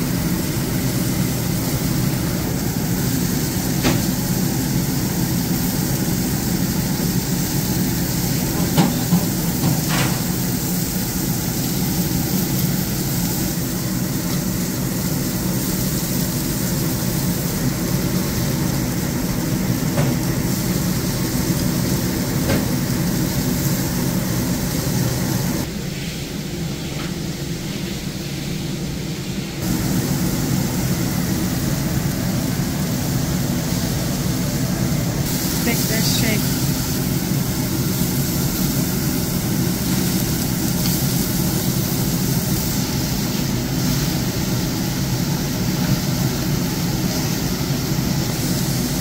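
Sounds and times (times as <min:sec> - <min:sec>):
chicken sizzling on a grill: 0:00.0 - 0:25.7, 0:29.6 - 0:49.0
kitchen equipment hum: 0:00.0 - 0:49.0.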